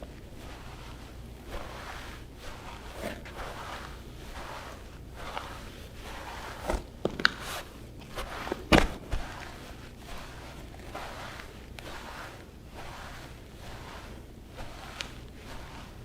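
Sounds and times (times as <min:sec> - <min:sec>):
bare footsteps on carpet: 0:00.0 - 0:16.0.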